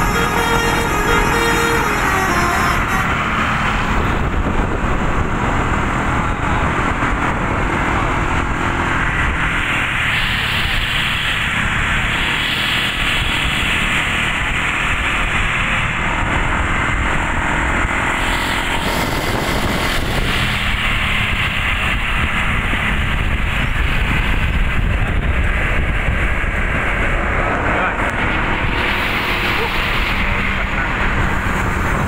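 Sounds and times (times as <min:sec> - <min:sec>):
bus diesel engine rumble: 0:00.0 - 0:32.0
road noise: 0:00.0 - 0:32.0.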